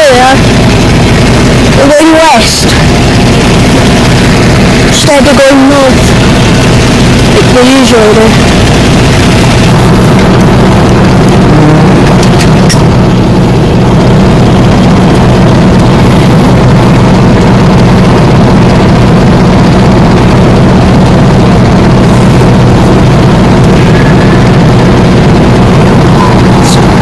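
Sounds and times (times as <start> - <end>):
tractor engine humming: 0.0 - 27.0.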